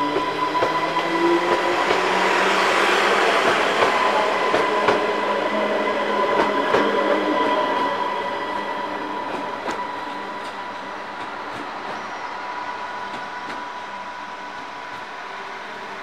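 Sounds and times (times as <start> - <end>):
high whine of train: 0.0 - 16.0
train running past: 0.0 - 16.0.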